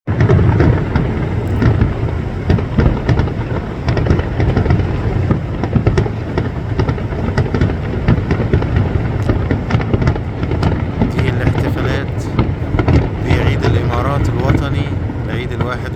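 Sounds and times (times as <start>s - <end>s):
fireworks cracks and pops: 0.1s - 15.9s
low rumble of booms: 0.1s - 15.9s.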